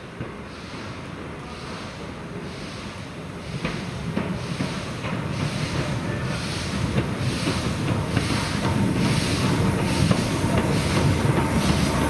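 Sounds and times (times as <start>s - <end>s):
rush of steam: 0.0s - 12.0s
steam locomotive exhaust beats: 0.0s - 12.0s.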